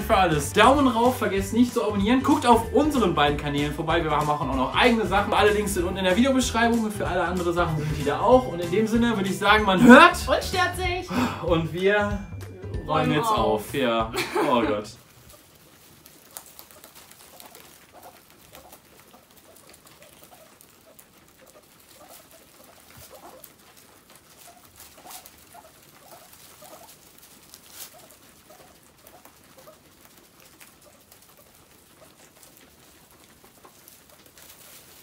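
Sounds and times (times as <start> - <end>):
guinea pigs chewing hay: 0.0 - 35.0.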